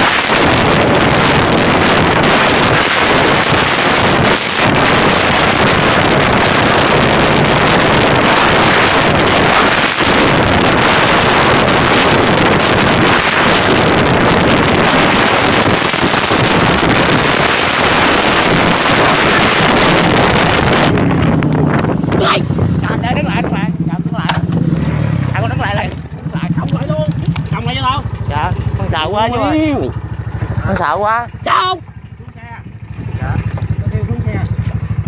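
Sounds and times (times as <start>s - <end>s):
motorbike ride noise: 0.0s - 35.0s
wind buffeting microphone: 0.0s - 35.0s.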